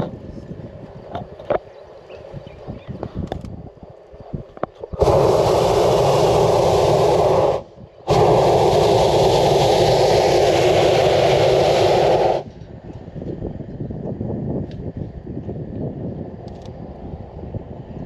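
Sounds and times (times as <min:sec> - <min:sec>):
propane burner blasts: 0:02.3 - 0:18.0.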